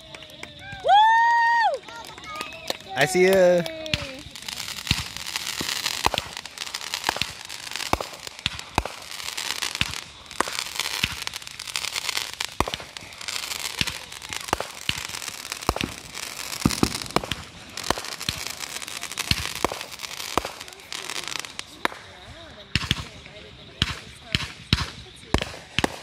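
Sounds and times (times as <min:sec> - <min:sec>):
crackling hiss of sparks: 0:00.0 - 0:26.0
fireworks bangs: 0:00.0 - 0:26.0.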